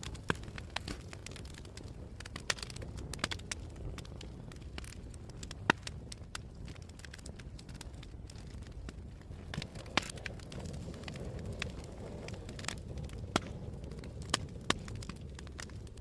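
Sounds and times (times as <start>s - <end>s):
fire crackling and popping: 0.0s - 16.0s
fire rumbling: 0.0s - 16.0s
loud snaps of burning wood: 0.0s - 16.0s.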